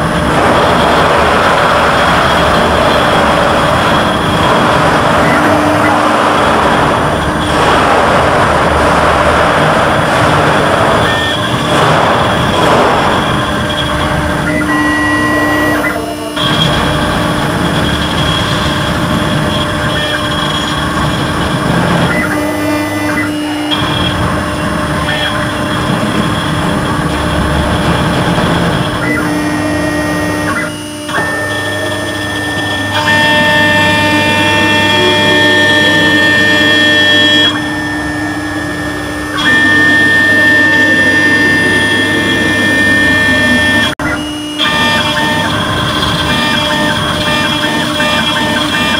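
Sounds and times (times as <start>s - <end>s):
router milling metal: 0.0s - 48.9s
spindle and machine running: 0.0s - 48.9s.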